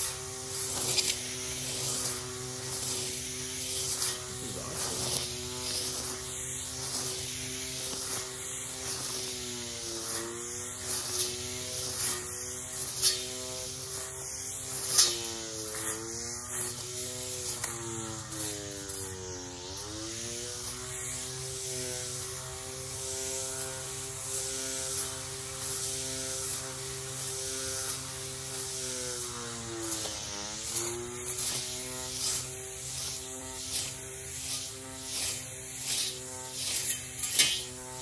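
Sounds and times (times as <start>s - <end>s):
electric weed eater motor whining: 0.0s - 38.0s.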